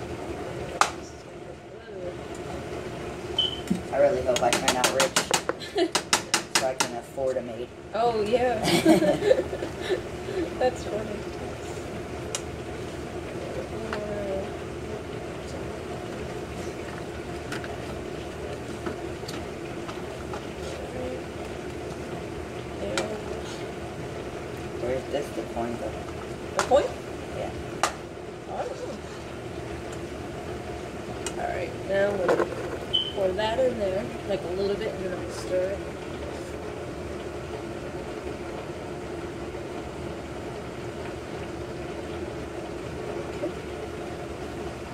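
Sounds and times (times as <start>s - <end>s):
steady kitchen hum: 0.0s - 44.9s.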